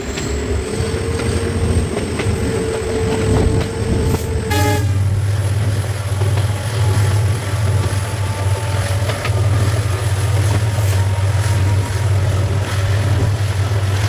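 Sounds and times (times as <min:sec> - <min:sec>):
diesel locomotive engine hum: 0:00.0 - 0:14.0.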